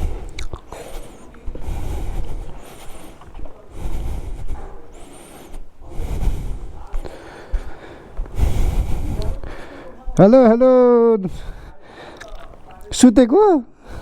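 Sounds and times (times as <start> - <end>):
person breathing loudly: 0.0 - 10.1, 11.3 - 12.4, 13.8 - 14.0.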